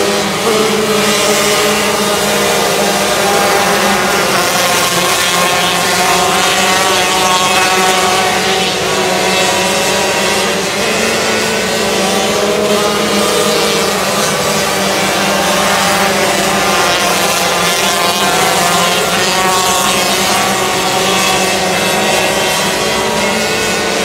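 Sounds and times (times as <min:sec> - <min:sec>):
high-pitched racing engines: 0:00.0 - 0:24.0.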